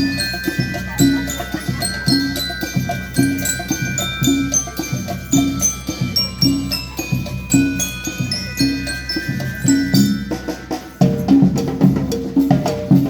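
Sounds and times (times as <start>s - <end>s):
bell lyres playing melody: 0.0s - 13.0s
drums beating: 0.0s - 13.0s.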